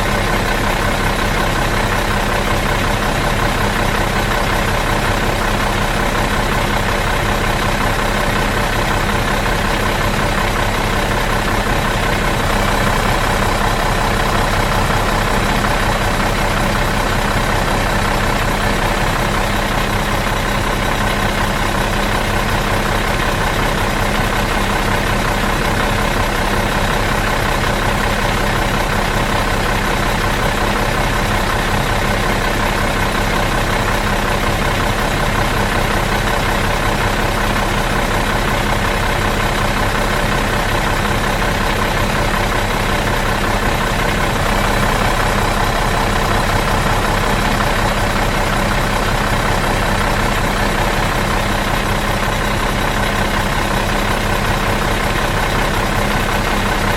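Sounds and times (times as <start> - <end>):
bus engine idling: 0.0 - 56.9.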